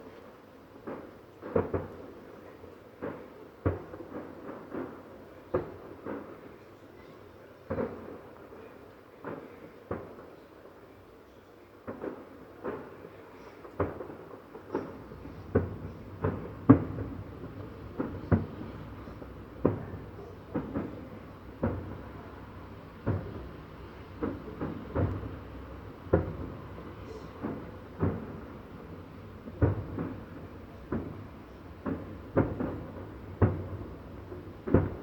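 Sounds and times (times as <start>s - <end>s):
fireworks bursting with bangs: 0.8s - 35.0s.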